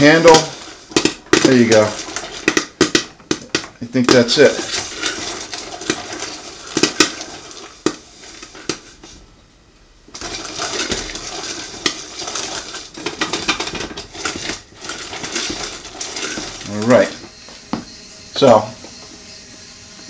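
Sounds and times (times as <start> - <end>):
popcorn popper crank rattling: 0.0 - 9.0, 10.1 - 17.4
popped corn tumbling: 0.0 - 9.3, 10.0 - 20.0.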